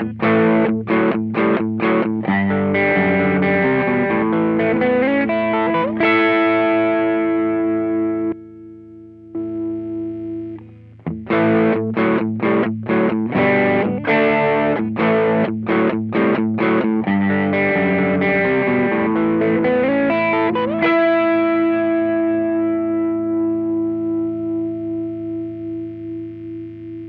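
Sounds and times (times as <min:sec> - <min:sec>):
overdriven electric guitar: 0:00.0 - 0:27.0.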